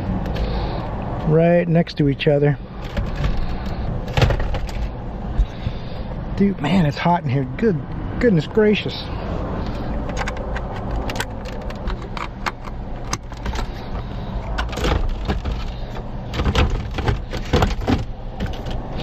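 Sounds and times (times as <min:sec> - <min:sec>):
car parts clicking and rattling: 0:00.0 - 0:19.0.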